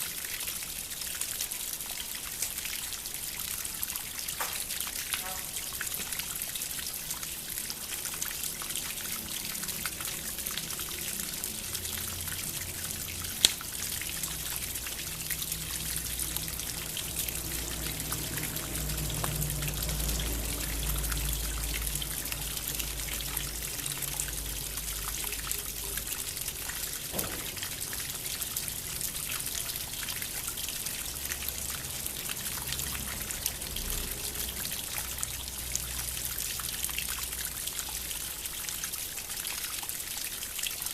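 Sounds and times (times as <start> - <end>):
fountain water trickling: 0.0 - 40.9.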